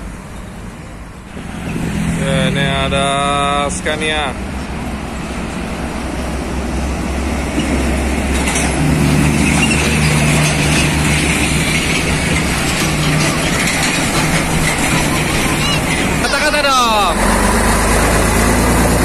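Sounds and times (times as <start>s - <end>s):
diesel truck engines droning: 0.0s - 19.0s
road noise: 0.0s - 19.0s
truck engine passing close: 0.9s - 19.0s.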